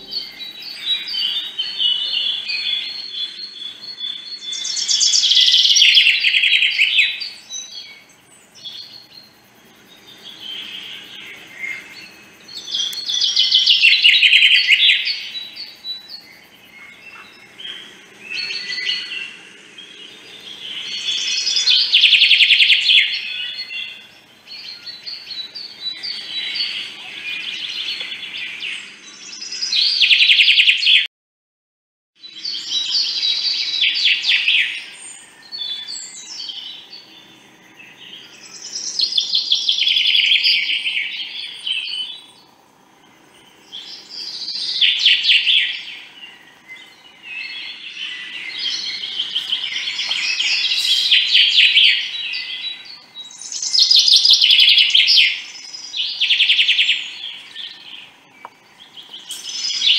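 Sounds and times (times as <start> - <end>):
songbirds chirping: 0.0 - 31.0, 32.2 - 59.9.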